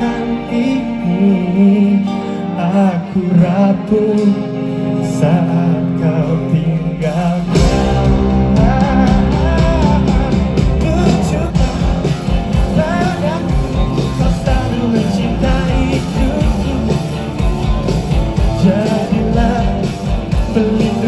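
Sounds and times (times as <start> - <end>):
live rock band playing: 0.0 - 21.0
wavering melodic lead line: 0.0 - 21.0.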